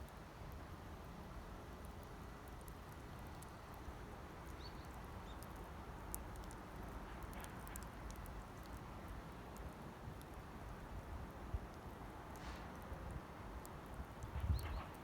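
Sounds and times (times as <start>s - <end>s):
campfire crackling: 0.0s - 14.3s.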